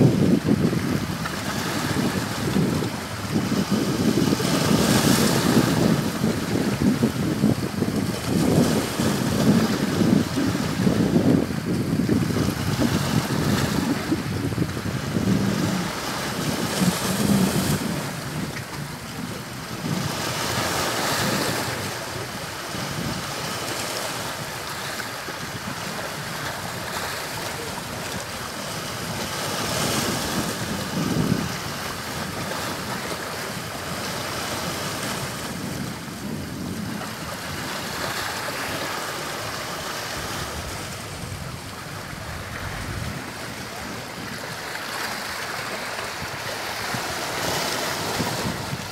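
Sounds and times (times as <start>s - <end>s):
sea waves breaking on shore: 0.0s - 48.9s
wind buffeting microphone: 0.0s - 48.9s.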